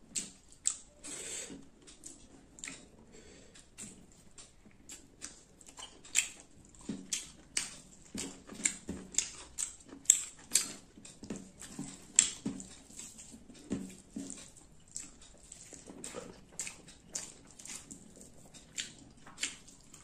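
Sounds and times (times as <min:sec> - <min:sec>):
wet eating by hand: 0:00.0 - 0:20.0.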